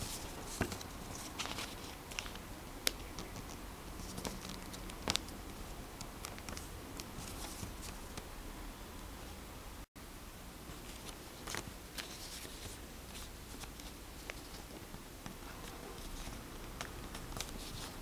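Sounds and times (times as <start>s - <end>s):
paper rustling and crinkling: 0.0s - 8.2s, 10.7s - 18.0s
sharp paper clicks: 0.0s - 8.2s, 11.0s - 18.0s.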